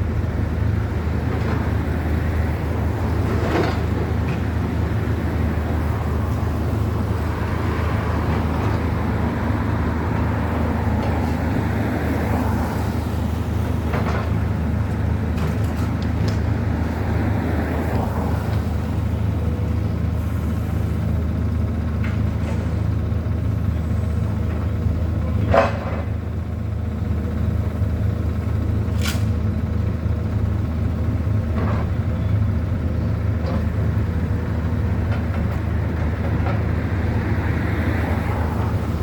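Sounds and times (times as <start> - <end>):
diesel engine rumbling: 0.0 - 39.0.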